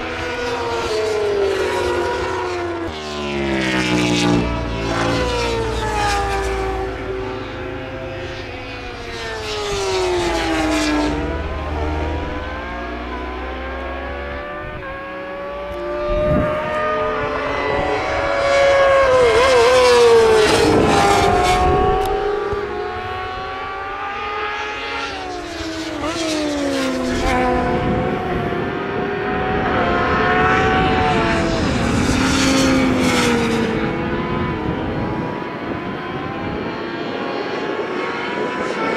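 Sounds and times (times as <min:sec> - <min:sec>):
racing motorcycles passing: 0:00.0 - 0:38.9.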